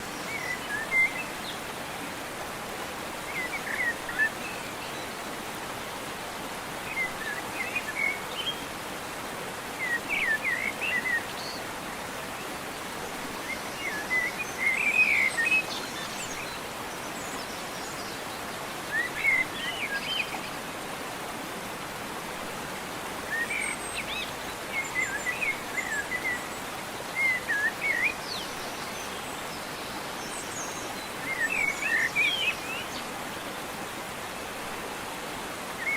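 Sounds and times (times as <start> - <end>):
countryside background hiss: 0.0 - 35.9.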